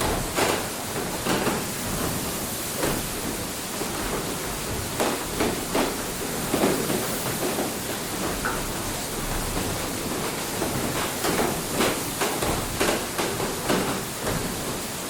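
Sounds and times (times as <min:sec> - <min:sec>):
water rushing over mill wheel: 0:00.0 - 0:15.0.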